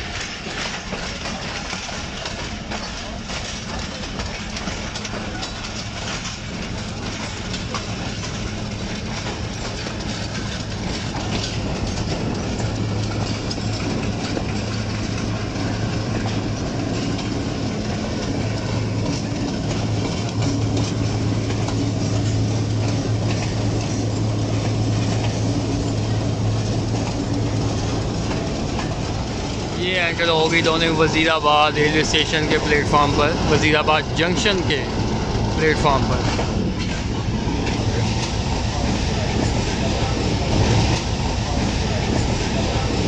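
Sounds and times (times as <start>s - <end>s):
diesel locomotive engine drone: 0.0s - 43.0s
train wheels rumbling on rails: 0.0s - 43.0s.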